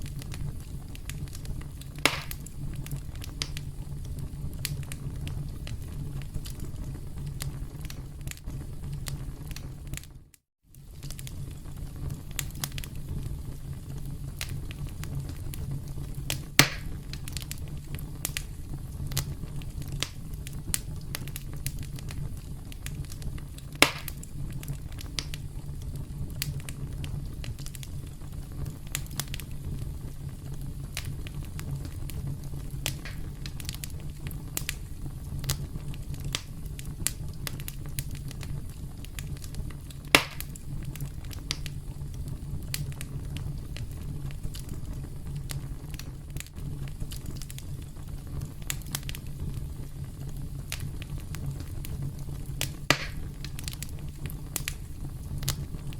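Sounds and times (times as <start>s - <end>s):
campfire crackling: 0.0s - 55.9s
loud fire pops: 0.0s - 55.9s.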